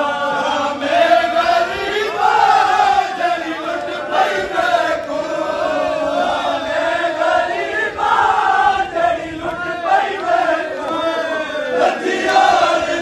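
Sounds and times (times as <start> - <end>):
men chanting a lament in unison: 0.0 - 13.0.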